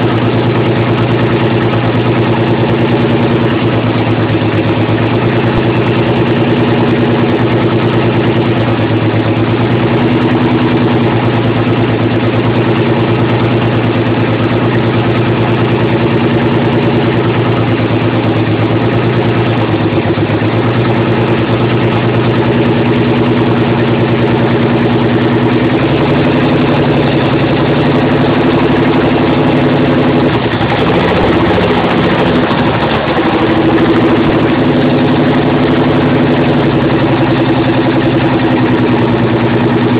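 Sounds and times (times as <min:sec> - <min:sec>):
car engine idling and misfiring: 0:00.0 - 0:39.9.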